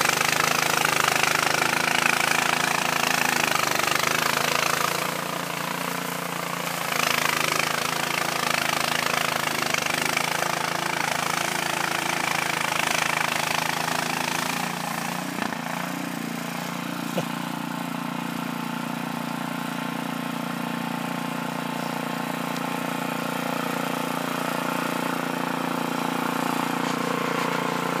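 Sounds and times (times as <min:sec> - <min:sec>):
snowblower engine drone: 0:00.0 - 0:28.0.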